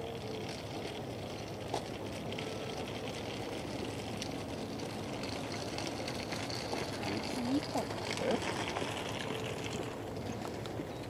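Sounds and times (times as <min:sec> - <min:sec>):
faint motor hum: 0:00.0 - 0:11.0.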